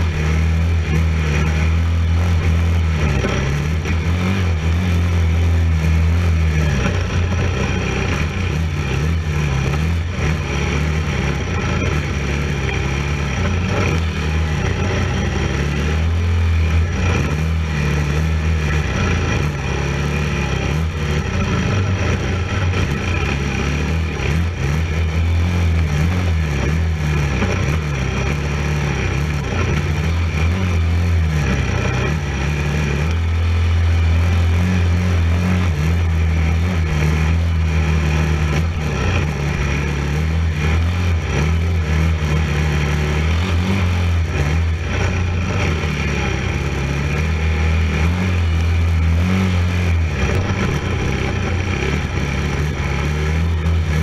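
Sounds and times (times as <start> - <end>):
constant rush of noise: 0.0 - 54.0
quad engine revving: 0.0 - 54.0.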